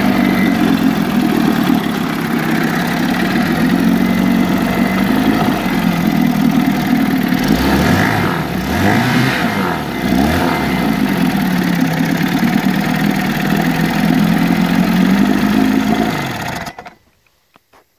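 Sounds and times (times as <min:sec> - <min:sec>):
outboard motor idling and revving: 0:00.0 - 0:17.1.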